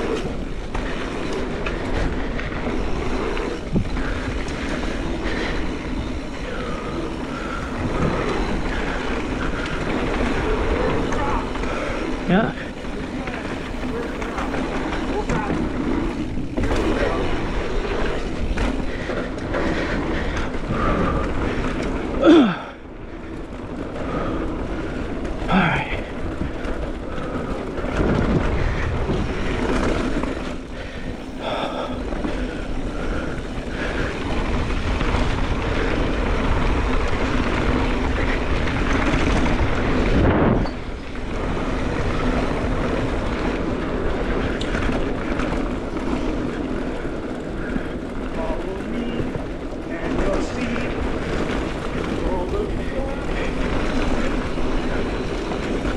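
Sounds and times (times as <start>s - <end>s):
bike tyres rattling over dirt: 0.0s - 55.9s
rushing wind: 0.0s - 55.9s.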